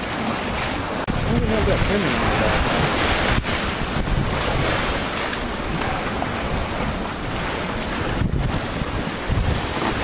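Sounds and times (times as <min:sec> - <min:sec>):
choppy water washing: 0:00.0 - 0:10.0
wind gusting on microphone: 0:00.4 - 0:10.0.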